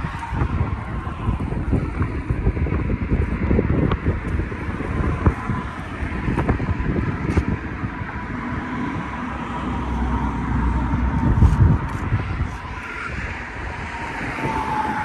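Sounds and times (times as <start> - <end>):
traffic going by: 0.0 - 15.0
wind buffeting the microphone: 0.0 - 15.0.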